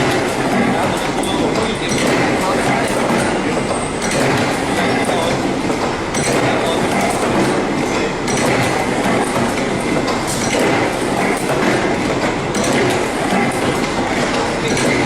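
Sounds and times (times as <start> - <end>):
mechanical clatter and rumble: 0.0 - 15.0.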